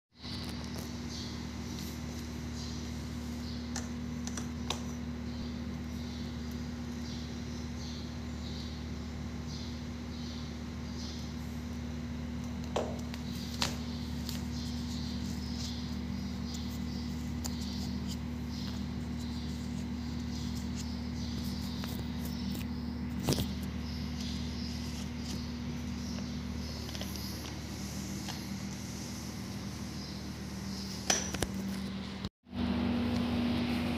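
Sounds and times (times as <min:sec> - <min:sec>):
steady low hum: 0:00.2 - 0:33.9.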